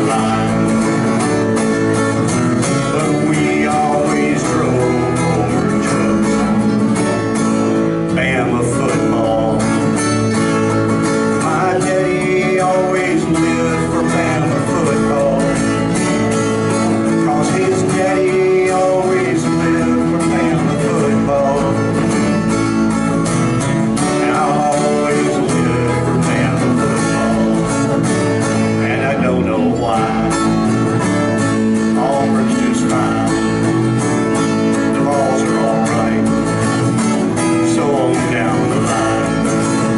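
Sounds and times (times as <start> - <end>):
acoustic guitar strumming: 0.0 - 39.9
second guitar playing: 0.0 - 39.9.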